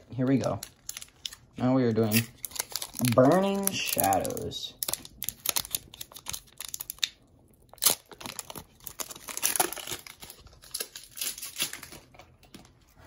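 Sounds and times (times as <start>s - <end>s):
foil wrapper crinkling and tearing: 0.2s - 12.5s.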